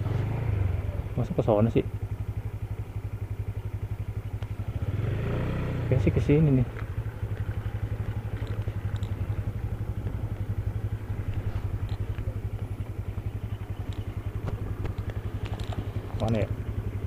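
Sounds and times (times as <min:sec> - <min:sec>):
scooter engine idling: 0:00.0 - 0:17.0.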